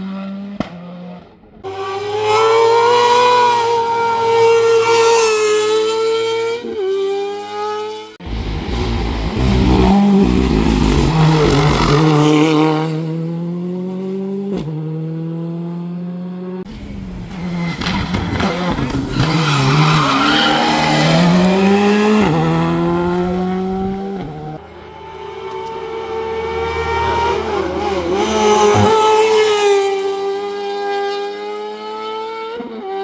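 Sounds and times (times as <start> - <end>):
race car engine accelerating: 0.0 - 33.0.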